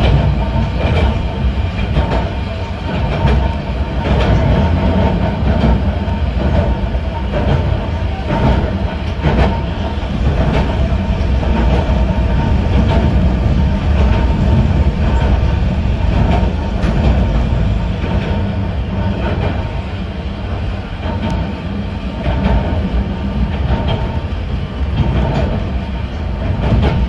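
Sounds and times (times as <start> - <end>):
train wheels rumbling on track: 0.0 - 27.0
wheels clicking over rail joints: 0.0 - 27.0.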